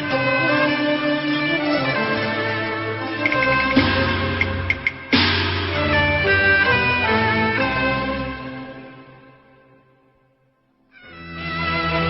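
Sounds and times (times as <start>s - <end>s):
opera instrumental accompaniment: 0.0s - 10.0s.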